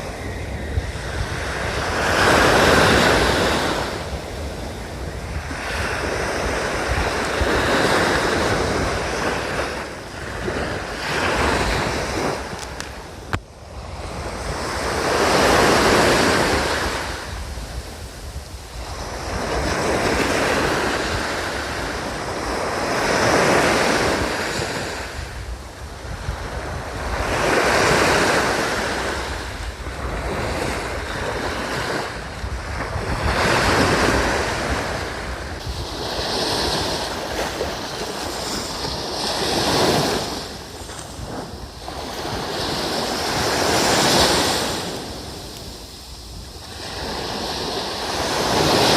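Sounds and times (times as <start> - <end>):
surf breaking on beach: 0.0 - 48.9
wind rumbling on microphone: 0.0 - 48.9.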